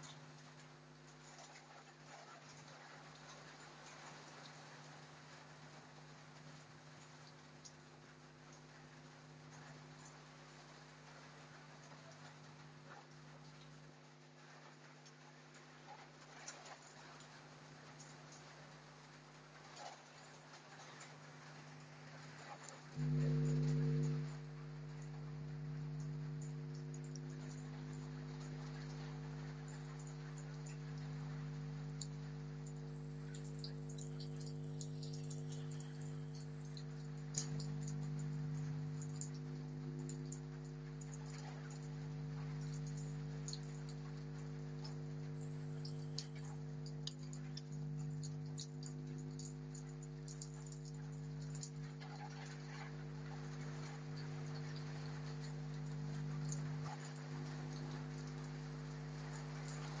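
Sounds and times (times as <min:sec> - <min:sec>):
rain falling: 0:00.0 - 1:00.0
steady low hum: 0:00.0 - 1:00.0
drips ticking on hard surface: 0:03.9 - 0:18.5, 0:21.6 - 1:00.0.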